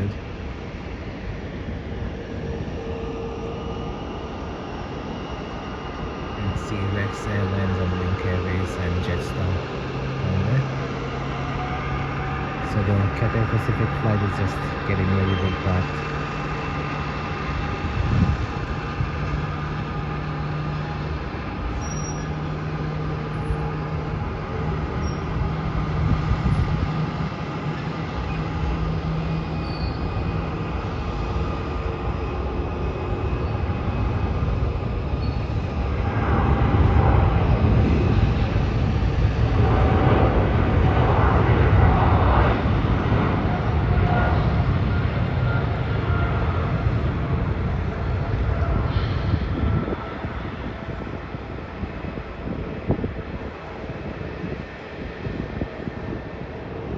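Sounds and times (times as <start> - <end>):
jet engines whining and rumbling: 0.0 - 56.9.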